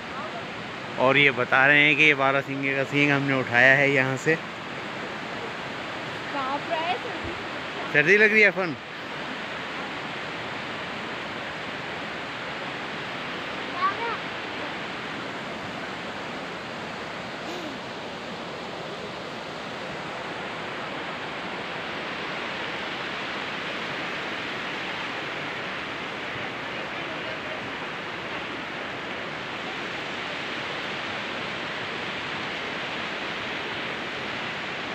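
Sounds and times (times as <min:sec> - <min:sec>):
river rapids rushing: 0:00.0 - 0:34.9.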